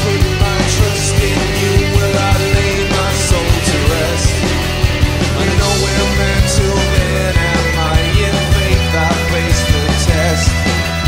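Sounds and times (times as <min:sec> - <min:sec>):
music with fast drumbeat: 0:00.0 - 0:11.0.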